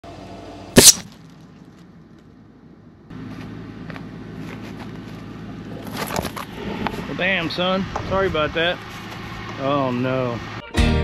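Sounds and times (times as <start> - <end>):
low engine-like hum: 0.0 - 10.7.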